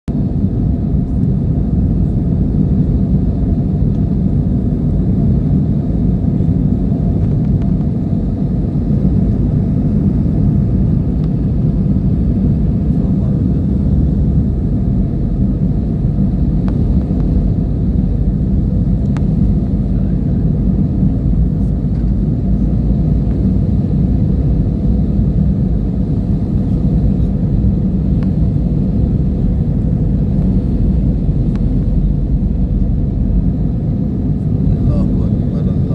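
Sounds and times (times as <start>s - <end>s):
airliner engines rumbling: 0.1s - 35.9s.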